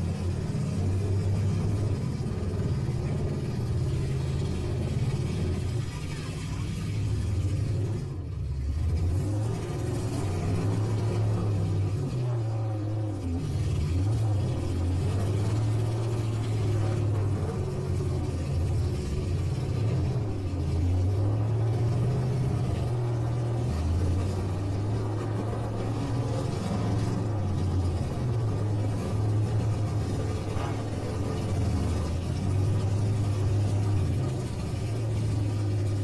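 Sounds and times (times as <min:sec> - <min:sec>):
pickup truck engines revving: 0:00.0 - 0:36.0.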